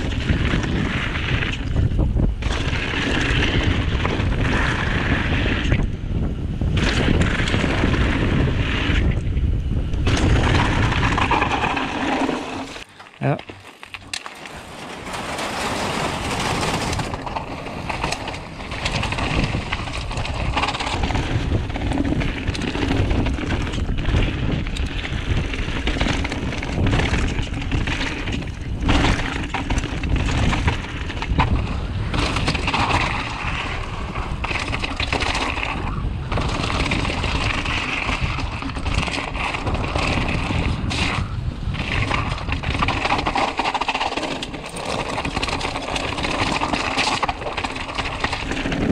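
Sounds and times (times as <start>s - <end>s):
bike tyres crunching over gravel: 0.0s - 48.9s.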